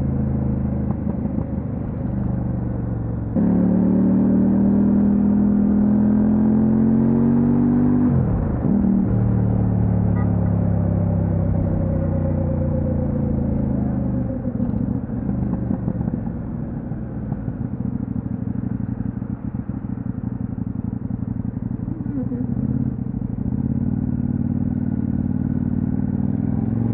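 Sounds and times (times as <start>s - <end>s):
motorcycle engine: 0.0s - 26.9s.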